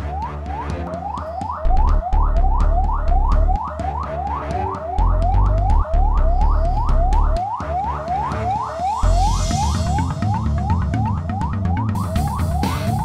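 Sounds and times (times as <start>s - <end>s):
ambulance siren yelping: 0.0s - 13.0s
low droning notes: 0.0s - 13.0s.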